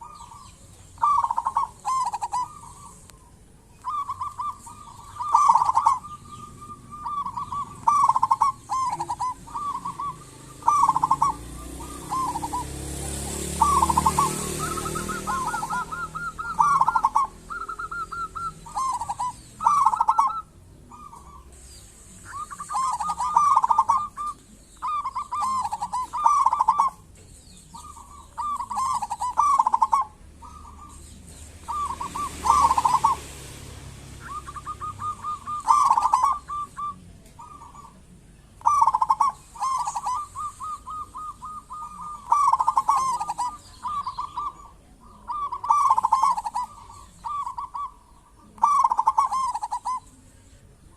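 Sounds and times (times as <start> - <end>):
dove trilled cooing: 0.0 - 50.9.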